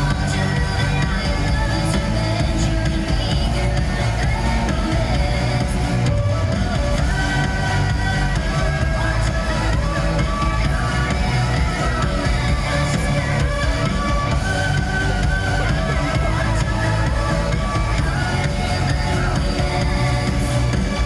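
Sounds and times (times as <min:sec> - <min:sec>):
music over loudspeakers: 0:00.0 - 0:21.0.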